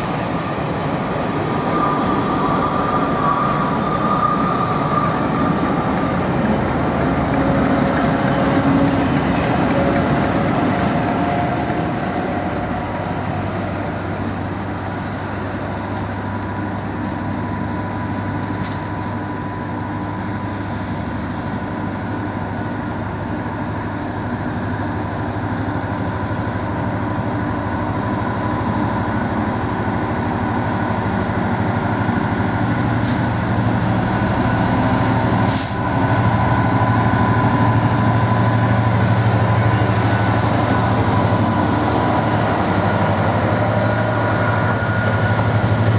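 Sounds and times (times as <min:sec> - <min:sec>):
train rumbling: 0:00.0 - 0:45.9.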